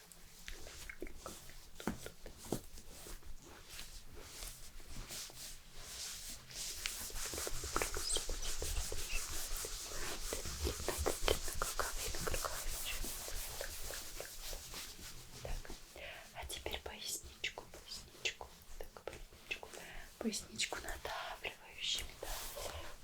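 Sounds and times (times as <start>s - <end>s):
hands rubbing skin: 0.1s - 23.0s.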